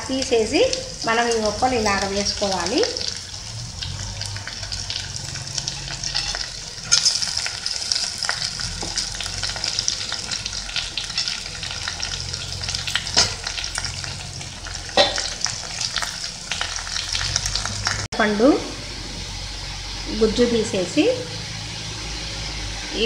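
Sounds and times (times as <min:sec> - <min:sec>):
vegetables sizzling in hot oil: 0:00.0 - 0:18.6, 0:19.2 - 0:23.0.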